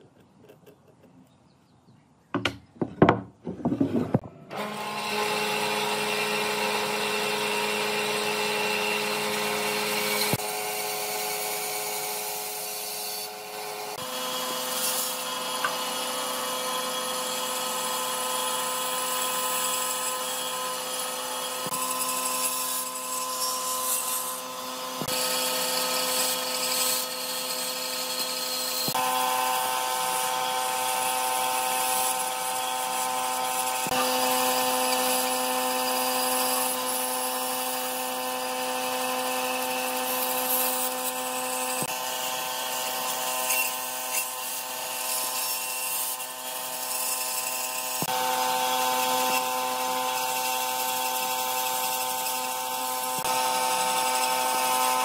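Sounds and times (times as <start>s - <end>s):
band saw cutting wood: 3.7s - 55.0s.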